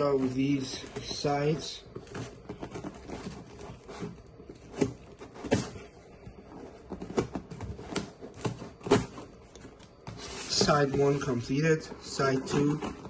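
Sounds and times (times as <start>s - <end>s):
tool scraping cardboard: 0.0s - 13.0s.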